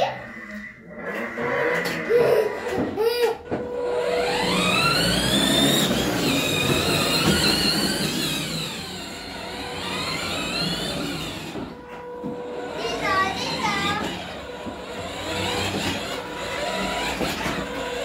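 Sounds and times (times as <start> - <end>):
electric toy car motors whining: 0.0 - 18.0.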